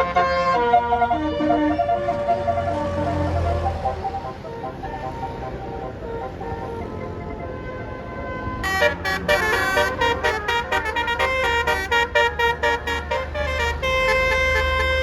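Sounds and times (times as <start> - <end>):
multi-tone musical bus horn: 0.0 - 15.0.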